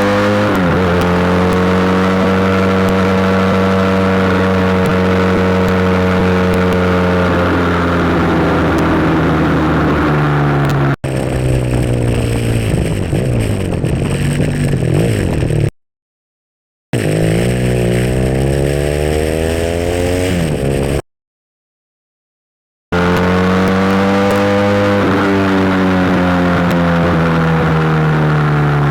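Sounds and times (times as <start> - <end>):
motorcycle engine revving: 0.0 - 15.7, 17.0 - 21.0, 22.9 - 28.9.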